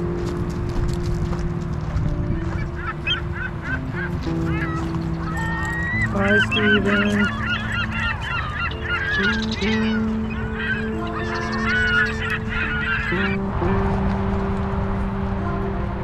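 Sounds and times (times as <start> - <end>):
geese honking: 0.0 - 16.0
steady low tones: 0.0 - 16.0.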